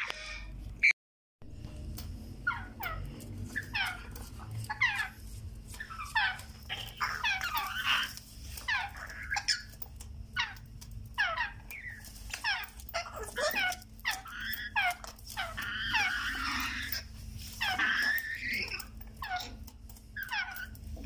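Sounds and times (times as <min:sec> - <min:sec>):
parrot chicks calling: 0:02.3 - 0:21.0.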